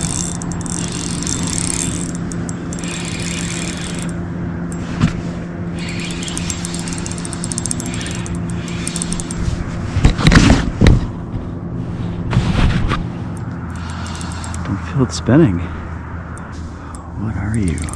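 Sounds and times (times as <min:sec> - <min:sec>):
boat motor running: 0:00.0 - 0:11.6, 0:13.3 - 0:17.9.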